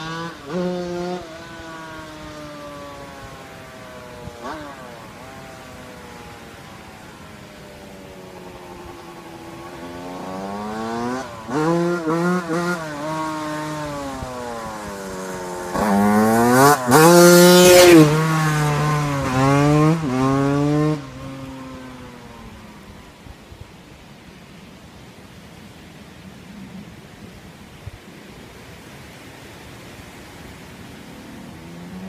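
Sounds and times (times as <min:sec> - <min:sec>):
motocross bike passing at full throttle: 0:00.0 - 0:32.0.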